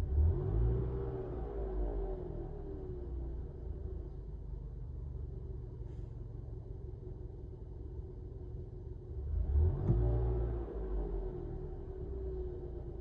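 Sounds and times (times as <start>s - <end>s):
car engine rumble and hum: 0.0s - 13.0s.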